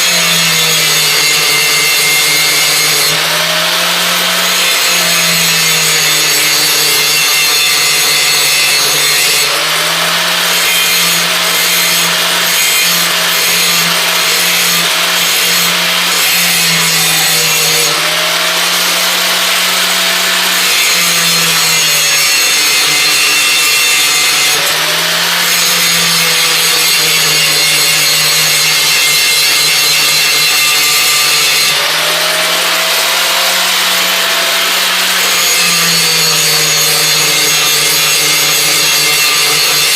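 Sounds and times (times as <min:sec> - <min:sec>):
electric grinder grinding metal: 0:00.0 - 0:39.9.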